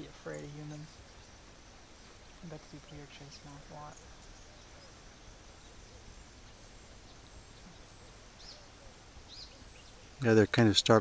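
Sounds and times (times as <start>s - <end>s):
faint bird chirps: 0.0s - 11.0s
low steady hum: 0.0s - 11.0s.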